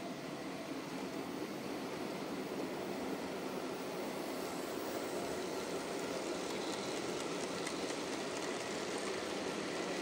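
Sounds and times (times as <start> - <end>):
model train rumbling on track: 0.1 - 10.0.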